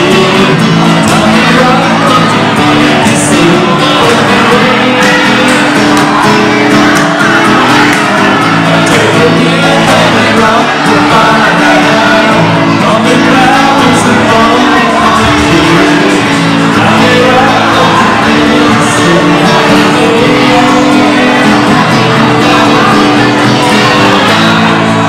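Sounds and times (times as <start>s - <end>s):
man singing into a microphone: 0.0s - 25.0s
strummed guitars: 0.0s - 25.0s.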